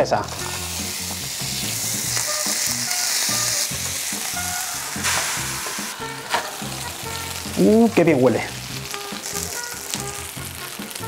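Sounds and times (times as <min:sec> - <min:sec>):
burger patties sizzling: 0:00.0 - 0:11.0.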